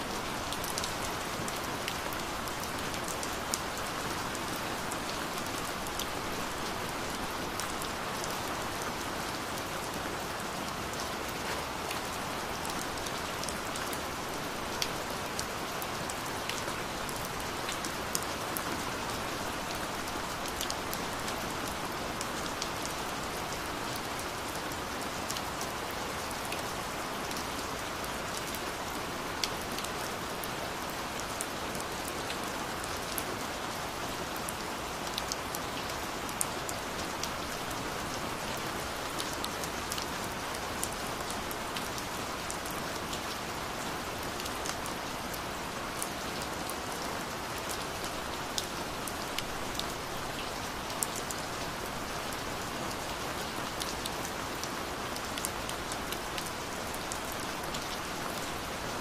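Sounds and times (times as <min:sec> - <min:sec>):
gentle rain falling: 0:00.0 - 0:59.0.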